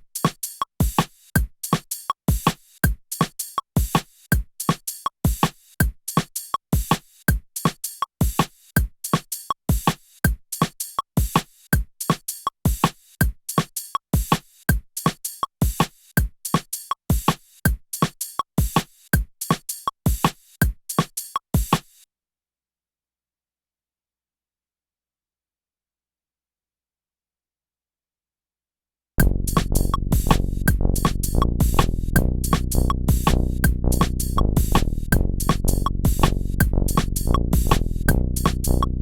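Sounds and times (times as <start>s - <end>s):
drum and bass beat: 0.0s - 21.9s, 29.2s - 39.0s.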